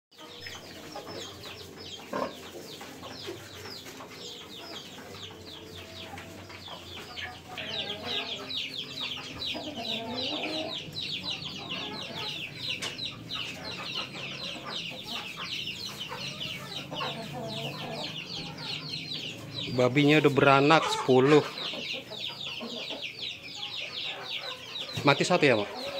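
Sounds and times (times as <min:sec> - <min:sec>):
chicks peeping: 0:00.2 - 0:25.9.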